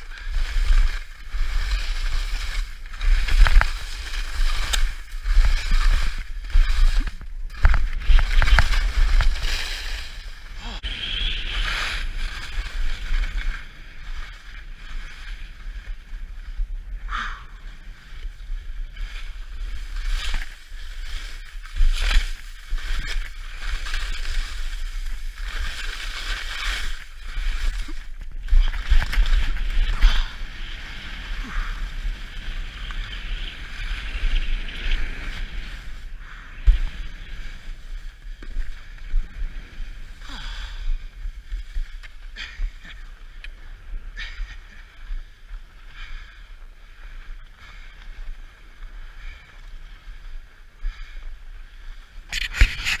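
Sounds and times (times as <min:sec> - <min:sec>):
skis scraping over snow: 0:00.0 - 0:53.0.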